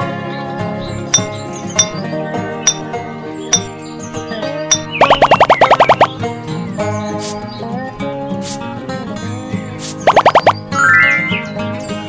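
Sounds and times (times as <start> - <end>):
plucked acoustic guitar music: 0.0 - 5.0, 6.1 - 12.0.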